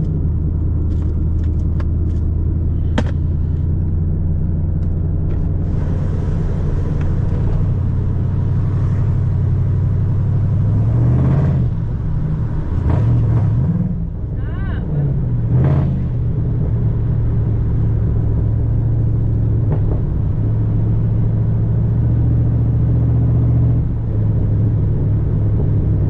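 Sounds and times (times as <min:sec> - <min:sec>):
car engine droning and revving: 0:00.0 - 0:26.0.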